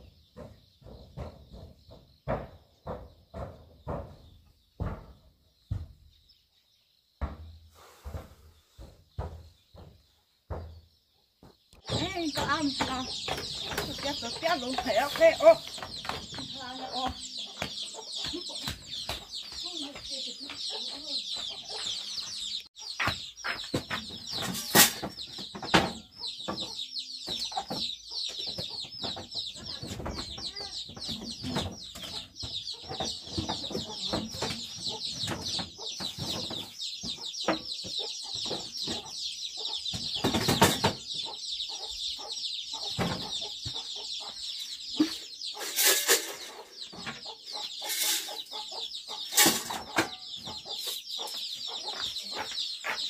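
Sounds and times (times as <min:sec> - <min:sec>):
chickens cheeping and clucking: 0:00.0 - 0:53.0.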